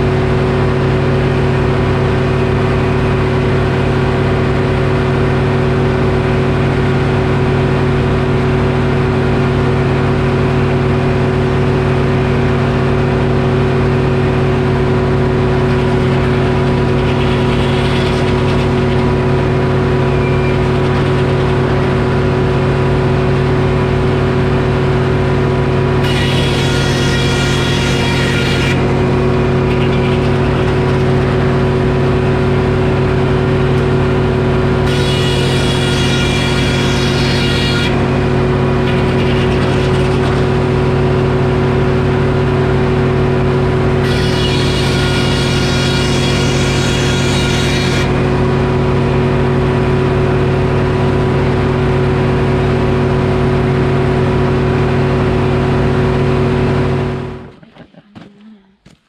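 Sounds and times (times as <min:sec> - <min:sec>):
circular saw whining through wood: 0:00.0 - 0:51.8
diesel engine running: 0:00.0 - 0:59.0.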